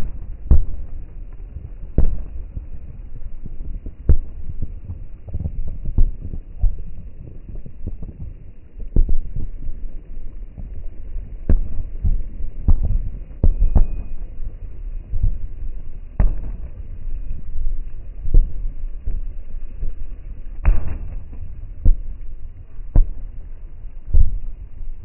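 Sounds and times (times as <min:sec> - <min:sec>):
fireworks bangs and booms: 0:00.0 - 0:19.3, 0:20.6 - 0:25.0
low rumble: 0:00.0 - 0:25.0.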